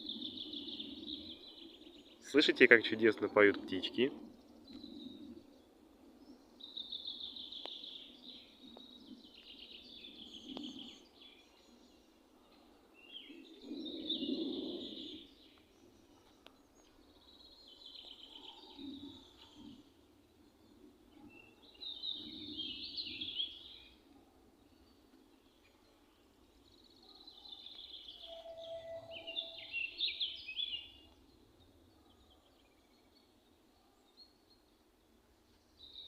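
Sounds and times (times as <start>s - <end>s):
songbird singing: 0.0s - 36.0s.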